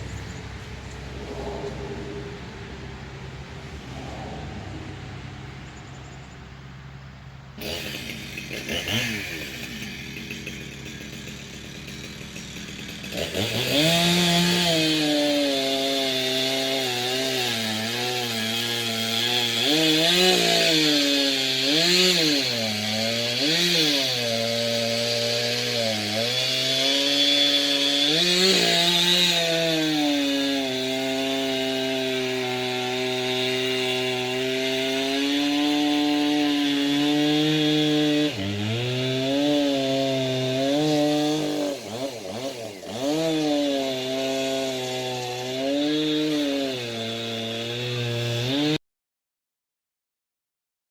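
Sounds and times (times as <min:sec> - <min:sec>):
chainsaw cutting logs: 0:00.0 - 0:48.8.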